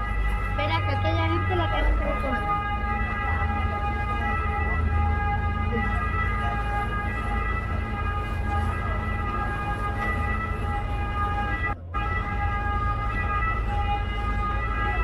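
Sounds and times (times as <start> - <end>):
motorboat engine rumble and whine: 0.0 - 15.0.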